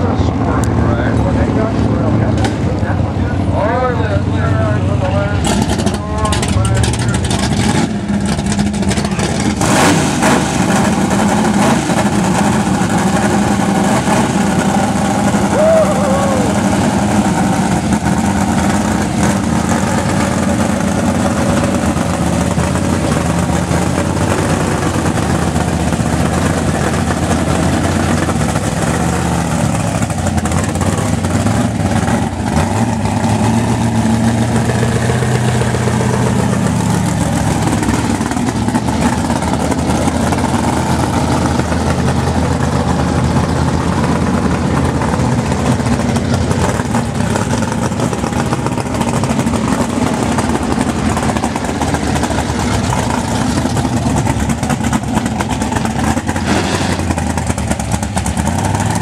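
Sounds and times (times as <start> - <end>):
car engine idling loudly: 0.0 - 59.0.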